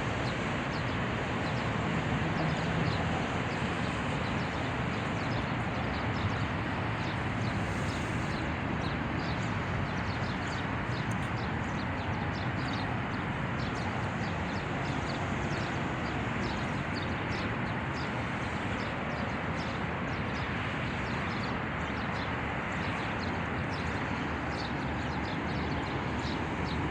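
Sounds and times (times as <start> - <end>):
small birds chirping: 4.3 - 26.9.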